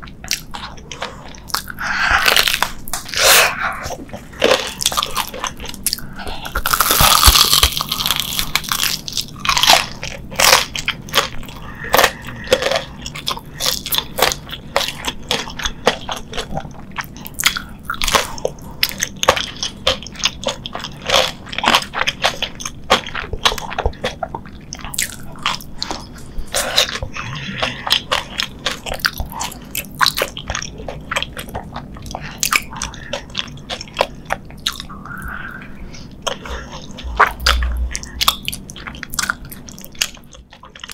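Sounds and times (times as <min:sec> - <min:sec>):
crunchy biting and chewing: 0:00.0 - 0:40.9.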